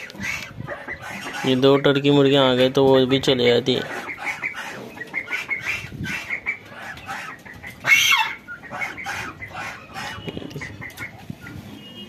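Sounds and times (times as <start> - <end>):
poultry clucking and peeping: 0.0 - 12.0.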